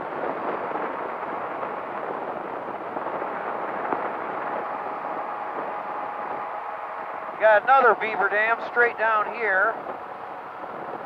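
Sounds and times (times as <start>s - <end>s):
engine and propeller running: 0.0s - 11.0s
wind on microphone: 0.0s - 11.0s.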